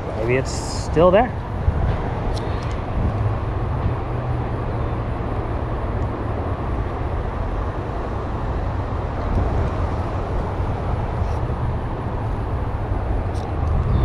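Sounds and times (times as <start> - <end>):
highway traffic hum: 0.0 - 14.0
wind buffeting microphone: 0.0 - 14.0.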